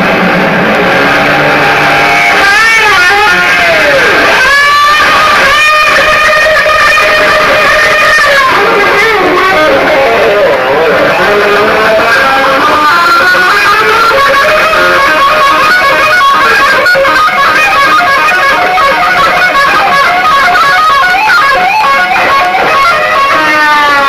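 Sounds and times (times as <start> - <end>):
loud fast melodic music: 0.0 - 24.0.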